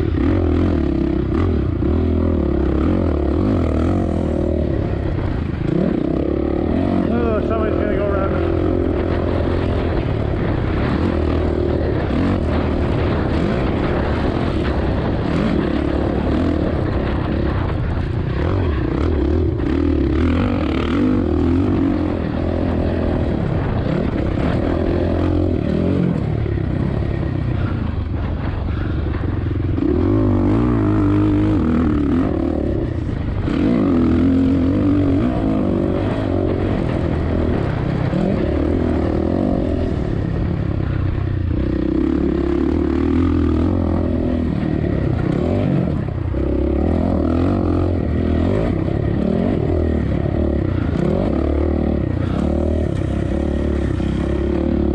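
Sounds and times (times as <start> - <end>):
motocross engine revving: 0.0 - 54.9.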